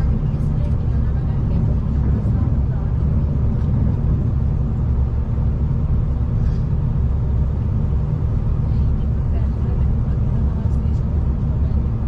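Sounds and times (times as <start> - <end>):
train rumbling from inside carriage: 0.0 - 12.0.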